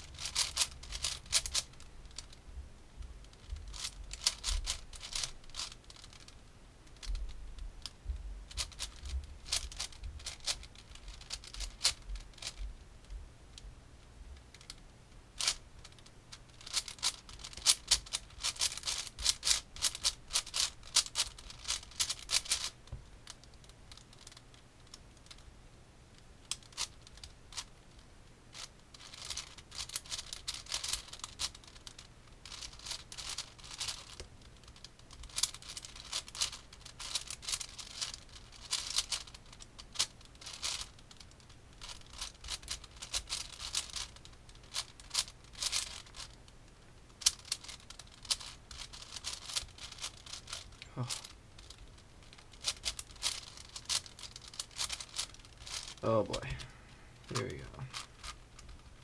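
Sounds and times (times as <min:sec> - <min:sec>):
rubik's cube clicking: 0:00.0 - 0:02.4, 0:03.3 - 0:12.6, 0:14.4 - 0:14.8, 0:15.4 - 0:25.4, 0:26.1 - 0:56.0, 0:56.6 - 0:59.0.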